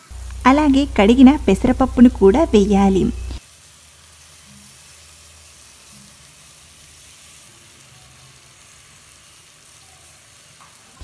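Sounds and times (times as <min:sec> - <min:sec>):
oil sizzling in pot: 0:00.0 - 0:11.0.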